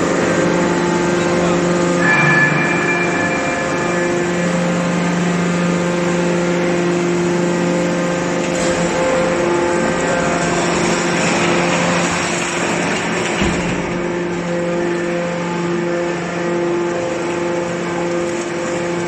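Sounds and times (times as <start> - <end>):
baler motor hum and whine: 0.0 - 19.0.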